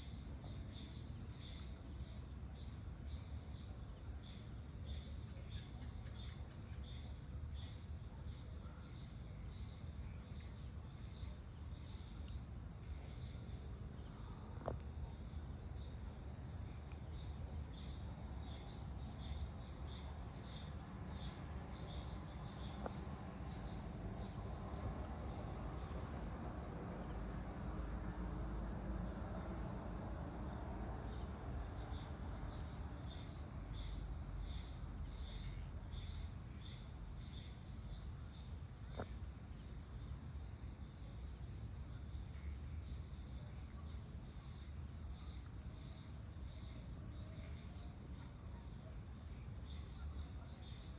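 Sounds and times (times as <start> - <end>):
crickets trilling: 0.0 - 50.9
insect chirps: 0.0 - 50.9.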